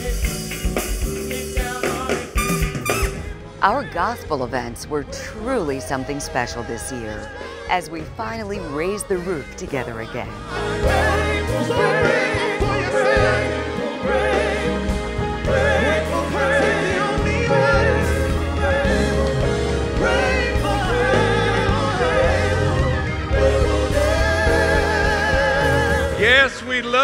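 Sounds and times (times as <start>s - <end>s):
band with bass line: 0.0s - 7.3s, 8.0s - 27.0s
gospel singing with vibrato: 0.0s - 27.0s.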